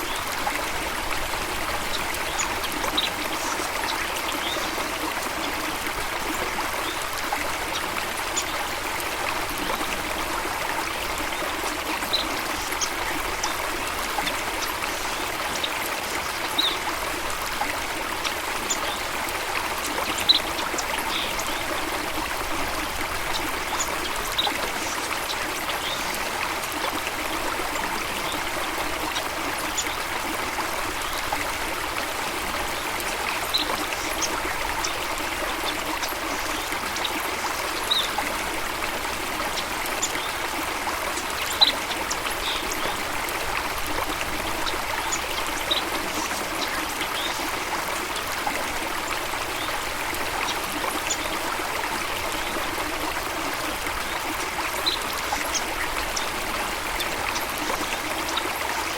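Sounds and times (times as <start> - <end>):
stream rushing and trickling: 0.0 - 58.9.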